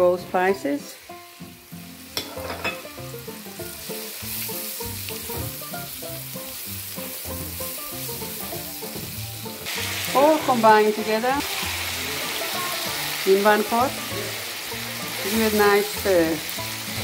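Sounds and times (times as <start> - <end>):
soft background music: 0.0 - 17.0
vegetables sizzling in hot oil: 0.0 - 17.0.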